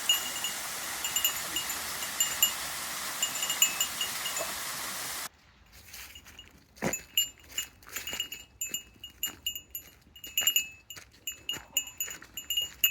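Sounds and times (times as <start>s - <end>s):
small metal bell tinkling: 0.0s - 4.9s, 6.0s - 12.9s.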